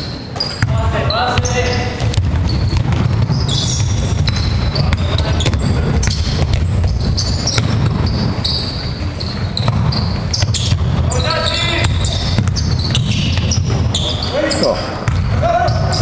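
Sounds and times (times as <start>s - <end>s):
shoes squeaking on court: 0.0s - 16.0s
basketball bouncing on wood floor: 0.4s - 8.6s, 9.2s - 14.2s, 15.0s - 16.0s.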